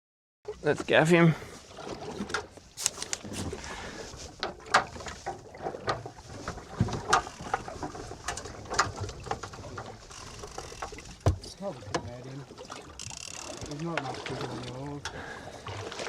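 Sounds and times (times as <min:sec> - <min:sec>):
water splashing against boat: 0:00.5 - 0:16.0.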